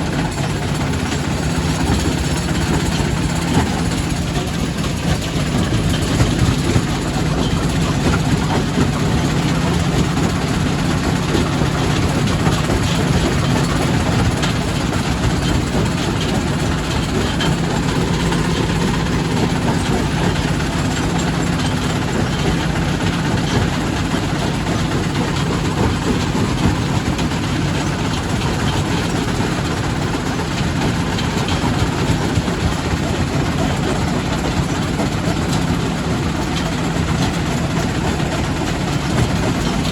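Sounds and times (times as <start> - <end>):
rock crusher machine drone: 0.0 - 39.9.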